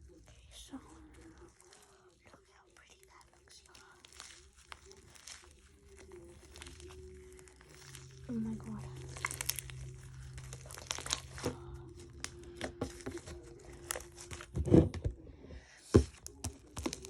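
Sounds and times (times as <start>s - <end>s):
slime crackling and popping: 0.0s - 14.6s, 16.0s - 17.0s.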